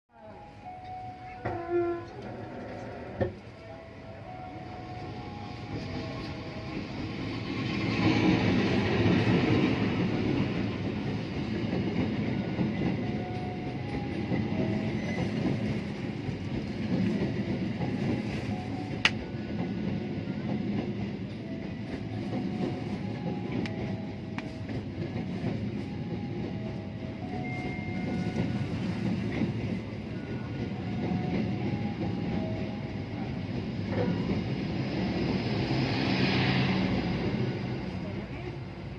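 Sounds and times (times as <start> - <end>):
train wheels on track: 0.6 - 38.9.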